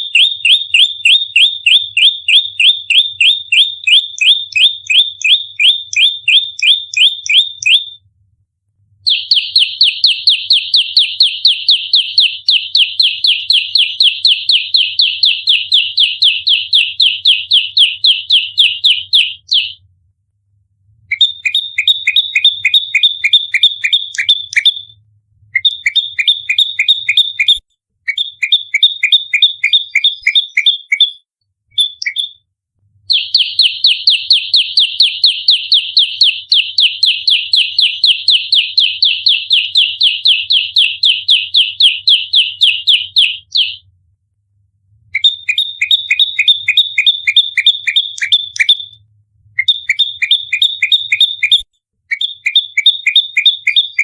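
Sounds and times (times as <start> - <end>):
bird rapid chirping call: 0.0 - 8.0, 9.1 - 19.8, 21.1 - 24.9, 25.6 - 32.4, 33.1 - 43.8, 45.2 - 49.0, 49.6 - 54.0.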